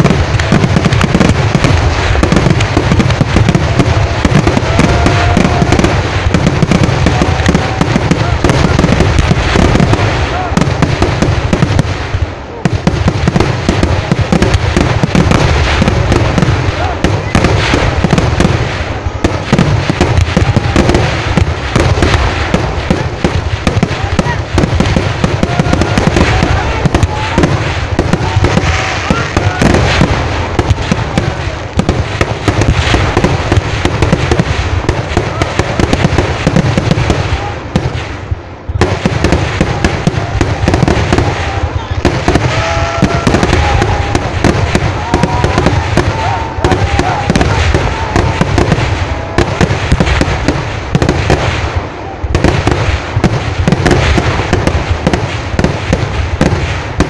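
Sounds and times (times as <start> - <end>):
firecrackers banging: 0.0 - 57.0.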